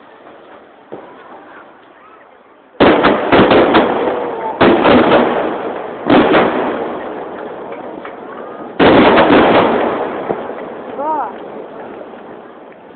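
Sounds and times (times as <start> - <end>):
fireworks bursting: 0.0 - 12.9.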